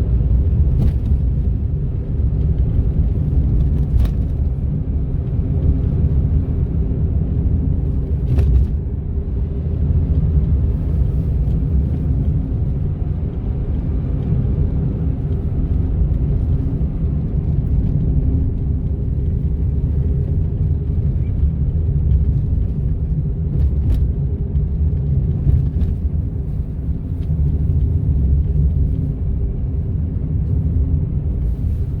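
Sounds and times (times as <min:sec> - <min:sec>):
road and engine rumble in car cabin: 0:00.0 - 0:32.0.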